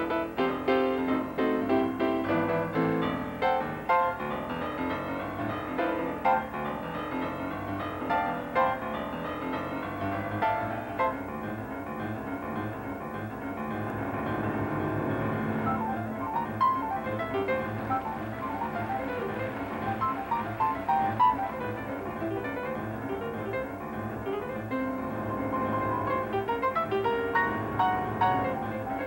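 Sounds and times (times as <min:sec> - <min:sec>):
jazz grand piano: 0:00.0 - 0:29.0.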